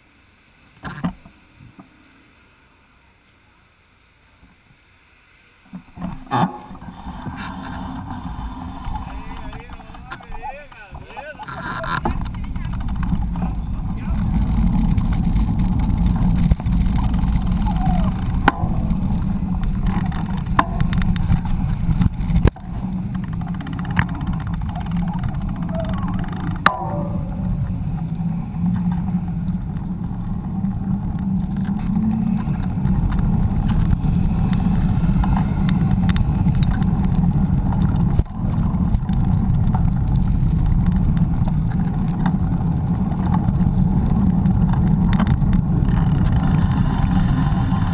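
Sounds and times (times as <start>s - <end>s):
bike tyres rumbling on pavement: 5.7s - 47.9s
wind buffeting microphone: 6.6s - 47.9s.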